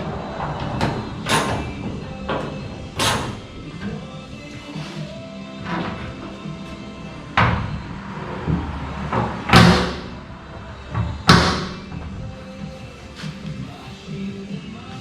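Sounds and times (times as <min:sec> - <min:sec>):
truck door slamming: 0:00.0 - 0:13.8
background music: 0:00.0 - 0:15.0.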